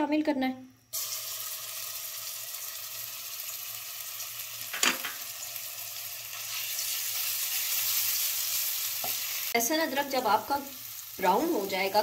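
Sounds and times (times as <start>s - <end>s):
paste sizzling in hot oil: 1.0s - 12.0s.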